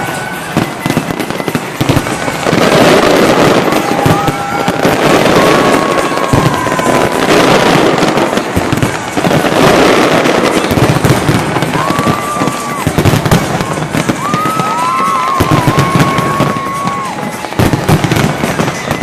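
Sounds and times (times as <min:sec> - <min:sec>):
fireworks crackling: 0:00.0 - 0:19.0
fireworks shells bursting: 0:00.0 - 0:19.0.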